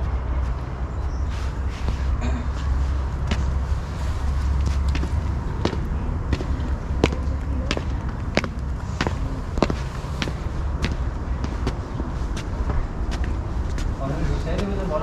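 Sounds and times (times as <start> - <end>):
steady deep rumble: 0.0 - 15.0
footsteps on a hard surface: 1.8 - 15.0.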